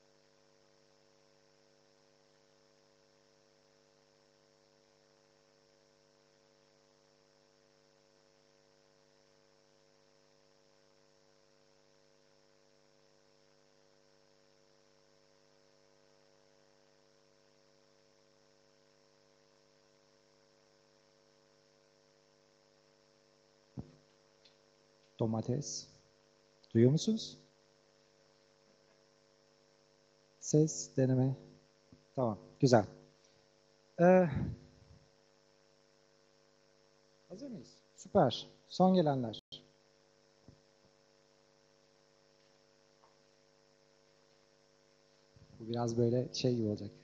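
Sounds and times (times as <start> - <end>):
electrical mains hum: 0.0 - 47.0.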